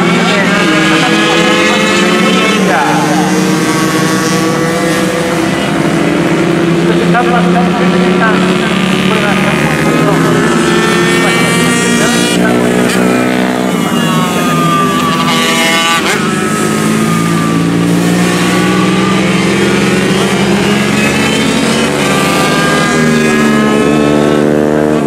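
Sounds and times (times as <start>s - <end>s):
racing motorcycle engines revving: 0.0s - 25.0s.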